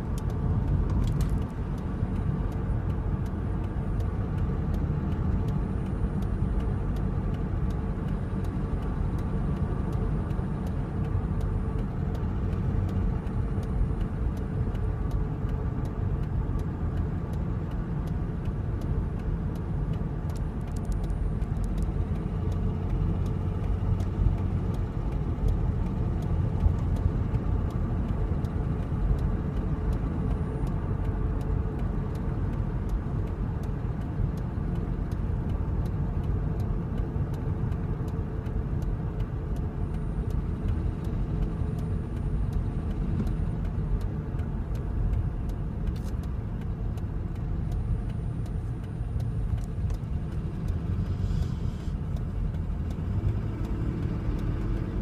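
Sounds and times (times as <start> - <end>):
road noise: 0.0 - 55.0
vehicle engine rumble: 0.0 - 55.0.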